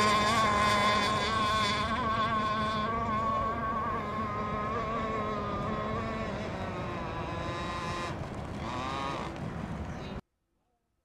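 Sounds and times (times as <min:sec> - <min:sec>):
model boat engine whining: 0:00.0 - 0:10.2.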